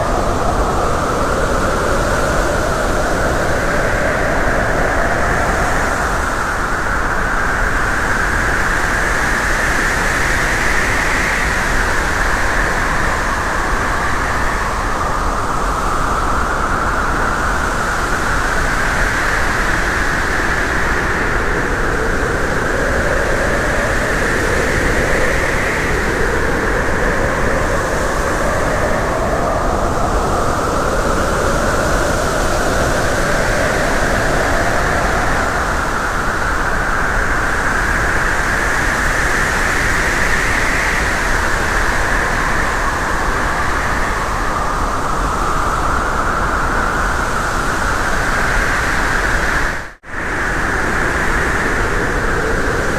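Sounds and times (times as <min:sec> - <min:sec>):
wind and road noise: 0:00.0 - 0:52.9.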